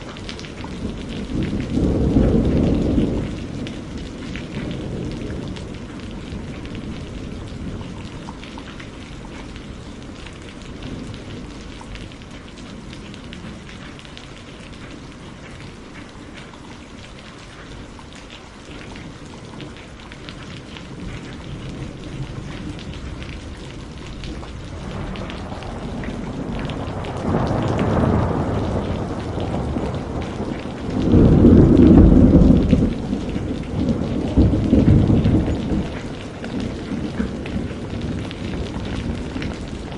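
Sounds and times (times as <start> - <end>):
thunder rumbling: 0.0 - 14.0, 20.4 - 39.9
steady rain: 0.0 - 39.9.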